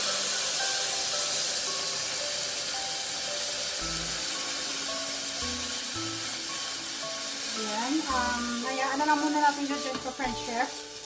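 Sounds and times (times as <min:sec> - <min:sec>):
background music: 0:00.0 - 0:11.0
meat sizzling in a pot: 0:00.0 - 0:11.0.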